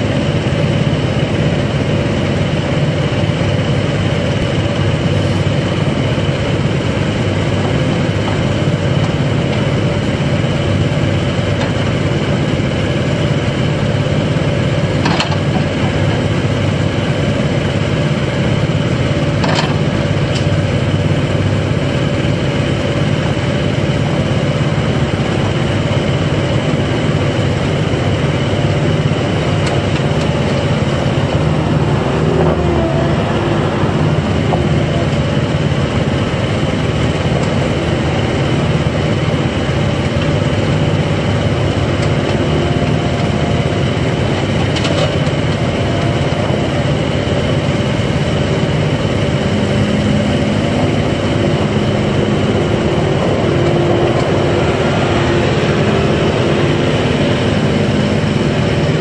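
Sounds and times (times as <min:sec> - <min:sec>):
diesel excavator running: 0:00.0 - 0:59.0.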